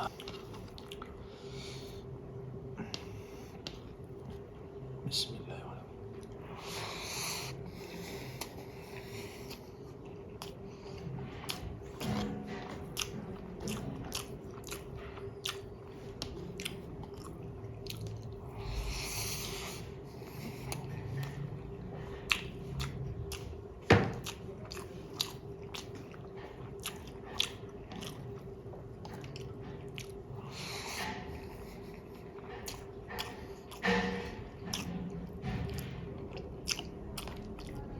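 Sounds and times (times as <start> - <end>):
chewing and biting food: 0.0 - 1.2, 6.2 - 37.9
faint steady hum: 0.0 - 37.9.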